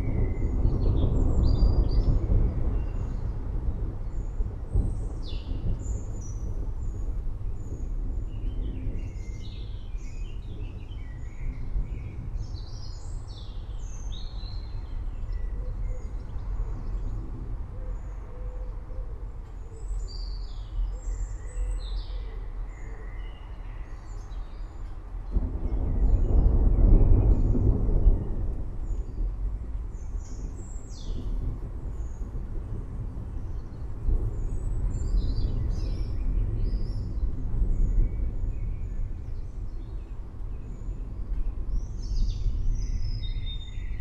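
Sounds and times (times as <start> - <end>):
forest birds chirping: 0.0 - 44.0
low outdoor rumble: 0.0 - 44.0.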